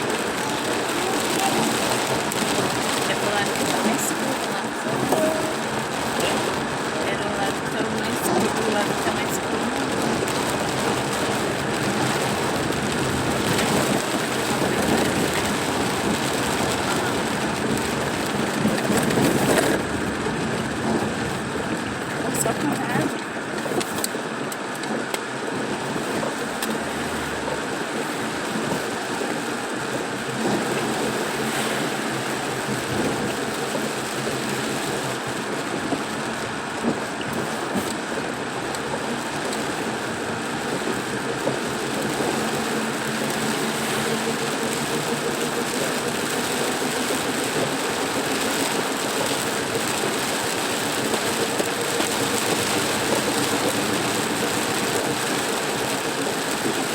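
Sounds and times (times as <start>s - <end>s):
engine hum: 0.0s - 56.9s
rain beating on a vehicle: 0.0s - 56.9s
road noise: 0.0s - 56.9s.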